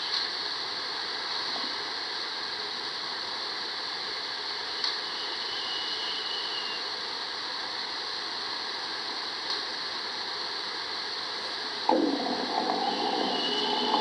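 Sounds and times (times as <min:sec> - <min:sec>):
loud recording noise hiss: 0:00.0 - 0:14.0.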